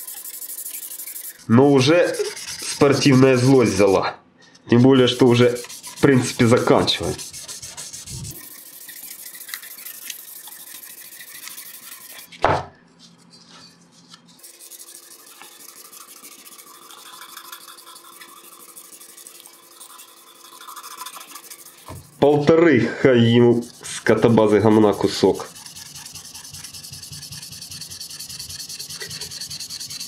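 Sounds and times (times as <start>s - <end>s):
sandpaper rubbing on steel: 0.0s - 4.0s, 4.7s - 12.3s, 14.3s - 22.6s, 23.2s - 30.0s.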